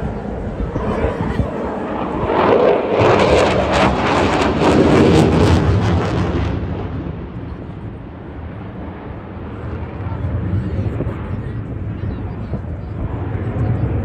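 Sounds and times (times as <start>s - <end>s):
jet passing with crackling rumble: 0.0s - 14.0s.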